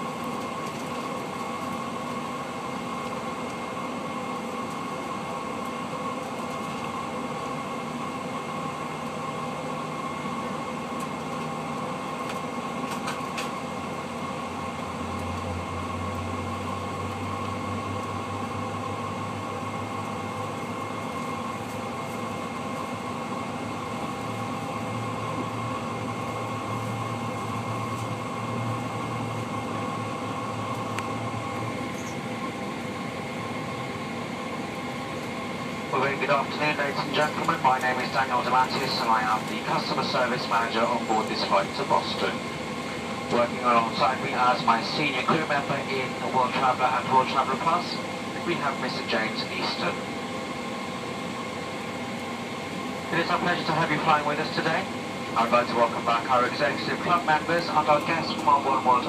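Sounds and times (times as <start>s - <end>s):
jet engines rushing hum: 0.0s - 59.0s.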